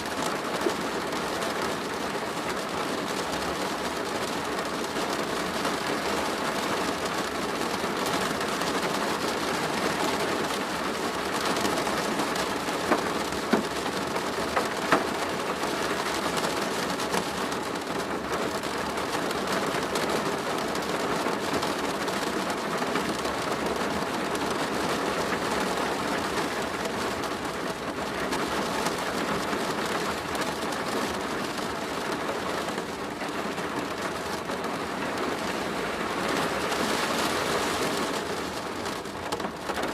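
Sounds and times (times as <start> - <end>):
rain drumming on plastic roof: 0.0 - 39.9.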